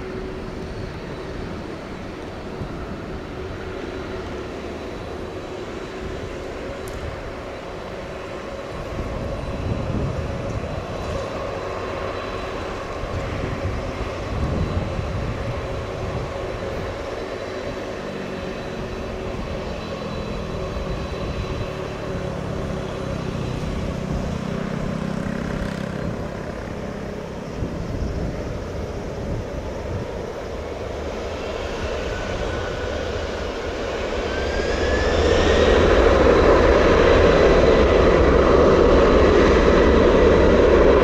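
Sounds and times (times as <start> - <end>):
jet engine whine: 0.0 - 41.0.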